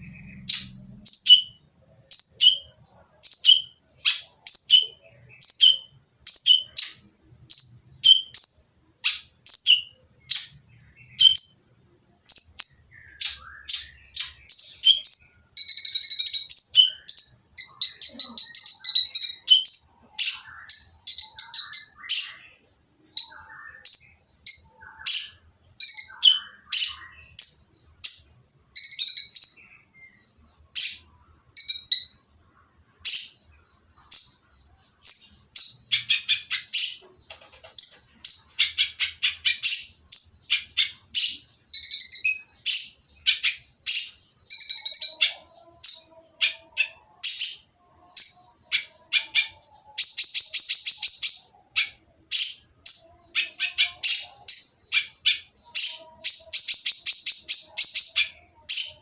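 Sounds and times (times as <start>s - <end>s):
sunbird calling harsh chirps: 0.0s - 29.7s, 34.2s - 59.0s.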